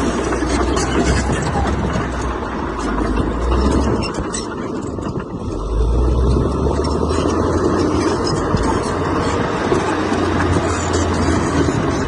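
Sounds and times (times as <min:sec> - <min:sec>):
diesel machinery engine drone: 0:00.0 - 0:12.0.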